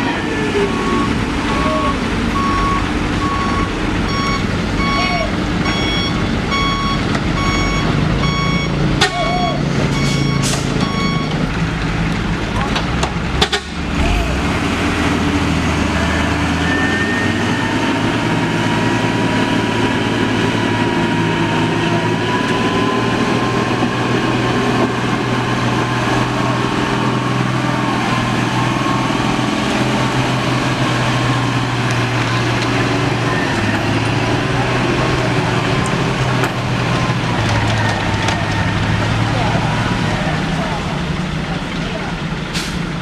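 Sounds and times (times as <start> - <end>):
diesel truck engine under load: 0.0 - 43.0.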